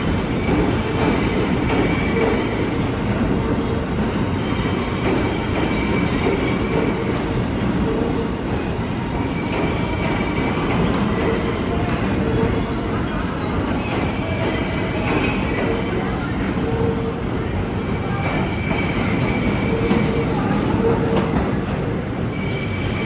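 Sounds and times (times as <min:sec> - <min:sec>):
rail clicks: 0:00.0 - 0:22.0
subway train rumble: 0:00.0 - 0:23.0.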